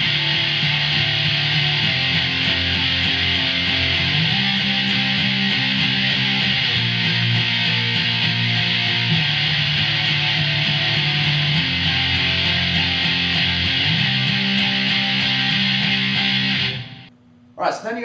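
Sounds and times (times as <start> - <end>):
electric guitar strumming chords: 0.0 - 17.1.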